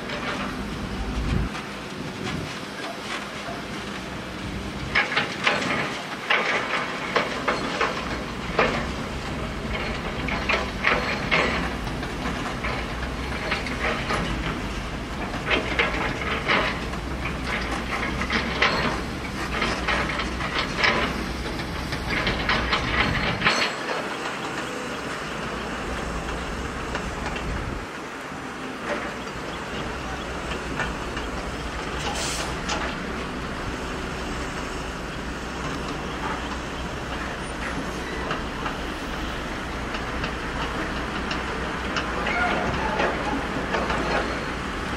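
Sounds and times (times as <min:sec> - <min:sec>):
truck engine rumble: 0:00.0 - 0:44.9
trucks clattering and banging: 0:00.0 - 0:44.9.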